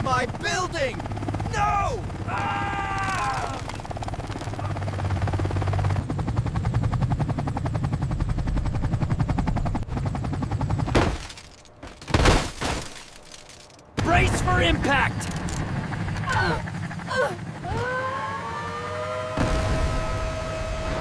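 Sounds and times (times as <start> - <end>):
helicopter rotor chop: 0.0 - 12.0, 13.1 - 21.0.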